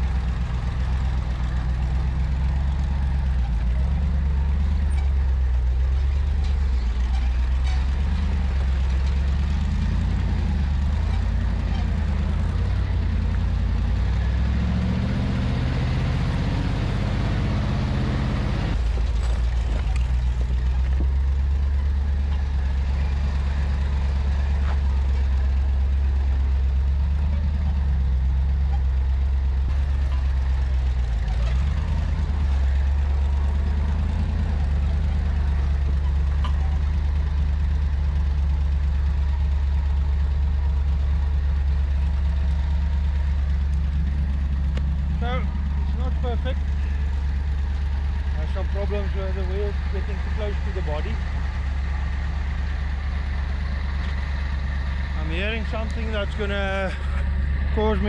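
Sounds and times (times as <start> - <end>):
jeep engine running: 0.0 - 58.0.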